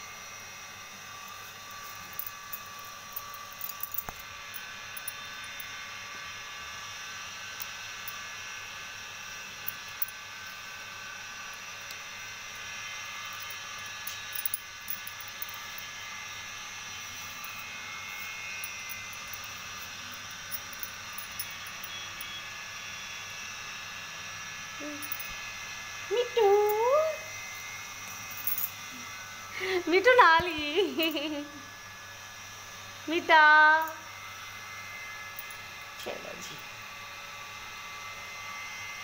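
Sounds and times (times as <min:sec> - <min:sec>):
machine-like hum: 0:00.0 - 0:39.0.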